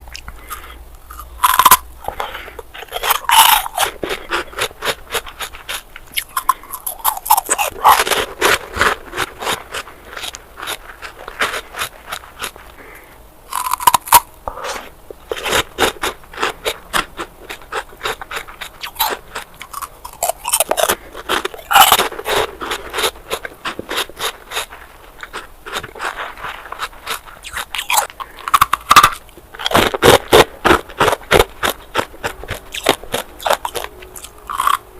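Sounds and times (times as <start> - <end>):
ice crackling when chewed: 0.0 - 34.9
ice bars crunching when bitten: 0.1 - 34.9.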